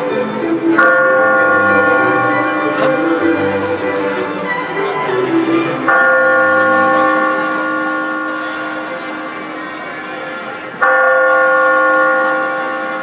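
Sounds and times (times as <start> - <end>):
large bell ringing: 0.0 - 13.0.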